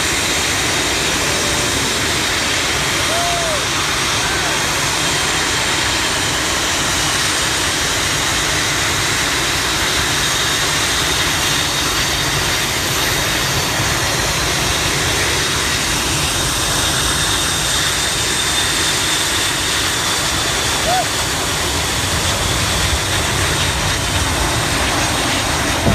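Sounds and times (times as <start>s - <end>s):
jet engines roaring with whine: 0.0s - 25.9s.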